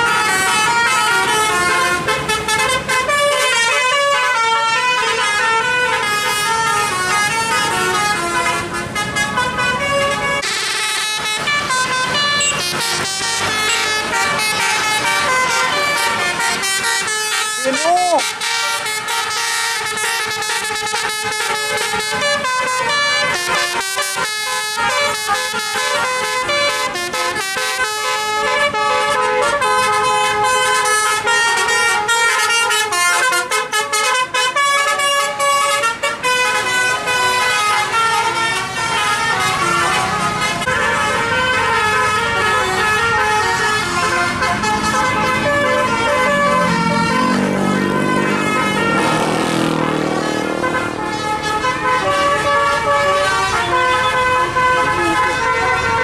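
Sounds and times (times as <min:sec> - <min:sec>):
multi-tone bus air horns: 0:00.0 - 0:56.0.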